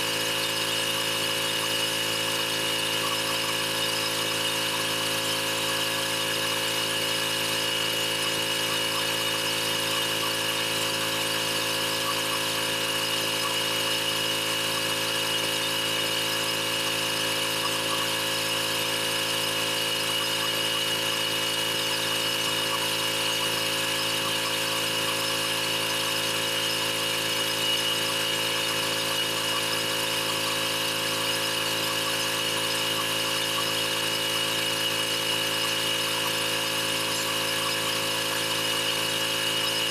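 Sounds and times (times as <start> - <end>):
pressure washer running: 0.0 - 39.9.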